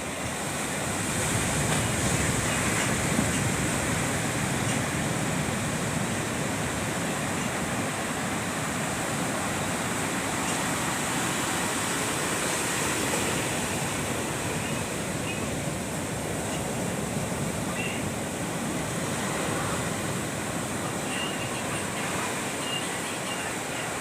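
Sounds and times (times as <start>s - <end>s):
sea surf rushing: 0.0s - 24.0s.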